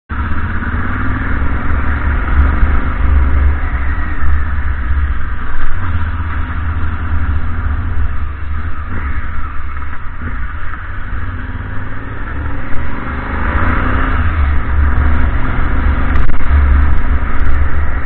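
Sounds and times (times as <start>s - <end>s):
road noise: 0.0s - 18.0s
motorcycle engine rumbling: 0.1s - 18.0s
wind noise: 0.2s - 18.0s.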